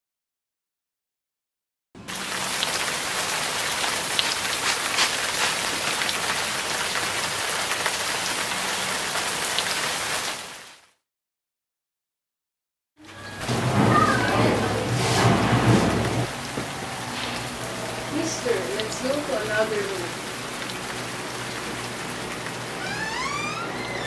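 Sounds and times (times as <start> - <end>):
steady rain: 2.0 - 10.9, 13.0 - 24.0.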